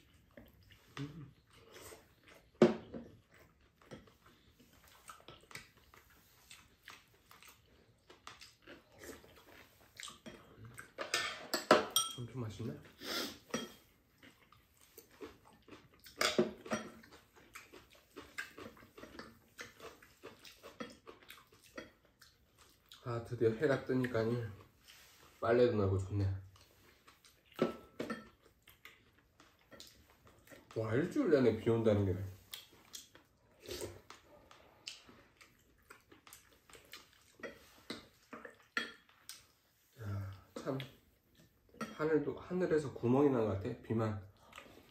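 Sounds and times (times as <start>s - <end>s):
chewing: 0.0s - 11.5s, 12.7s - 42.0s, 44.2s - 44.9s.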